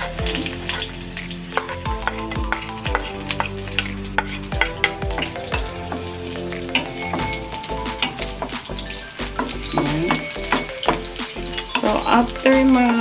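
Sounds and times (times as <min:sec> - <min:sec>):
onion sizzling in oil: 0:00.0 - 0:13.0
utensil clicking against pan: 0:00.0 - 0:13.0.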